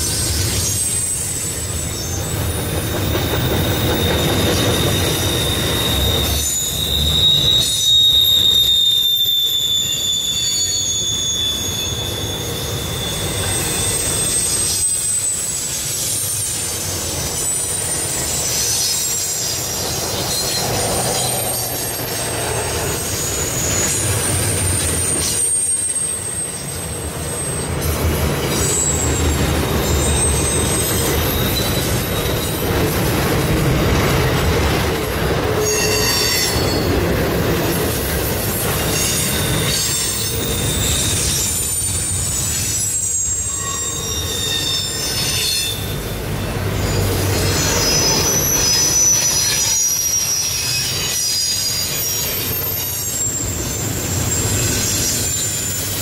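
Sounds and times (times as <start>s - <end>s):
freight train rumbling past: 0.0s - 56.0s
train wheels squealing: 0.0s - 56.0s.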